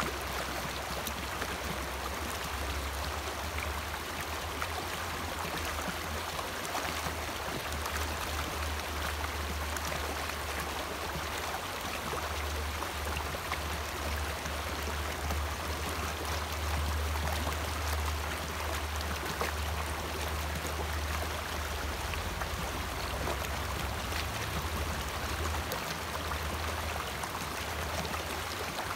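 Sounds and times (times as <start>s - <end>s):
creek rushing over stones: 0.0s - 28.9s.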